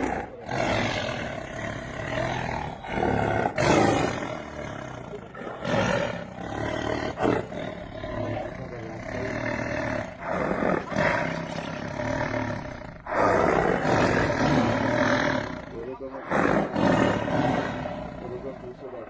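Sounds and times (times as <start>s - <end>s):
big cat roaring: 0.0s - 19.0s.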